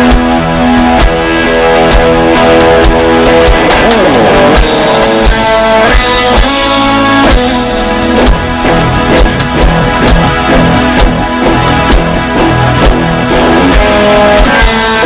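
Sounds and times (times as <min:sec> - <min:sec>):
drum kit steady beat: 0:00.0 - 0:15.0
electric guitars: 0:00.0 - 0:15.0.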